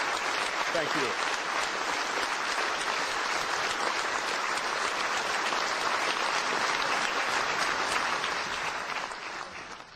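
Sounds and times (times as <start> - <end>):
audience applause: 0.0 - 9.9.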